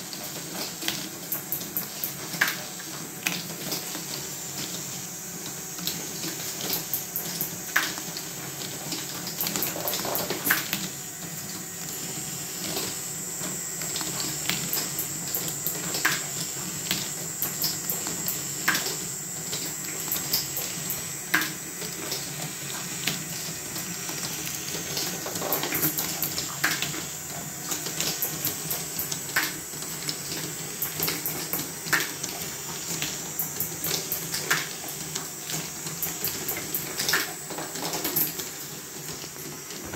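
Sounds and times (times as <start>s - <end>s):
thin steady whine: 0.0s - 39.9s.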